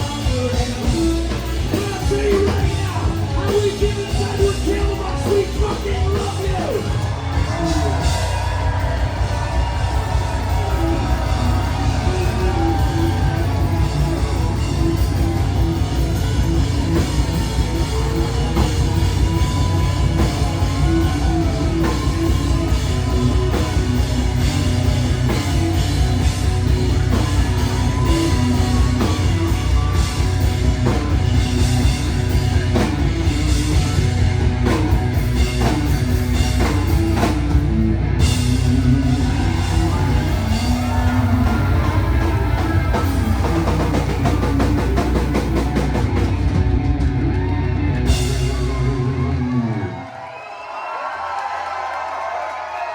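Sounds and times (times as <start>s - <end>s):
drum kit beat: 0.0s - 49.5s
rock band playing live: 0.0s - 50.3s.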